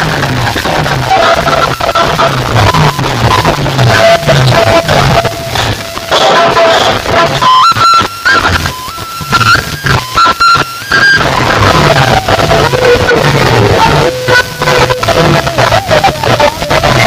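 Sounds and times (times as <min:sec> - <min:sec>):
loud music with heavy bass beat: 0:00.0 - 0:17.0.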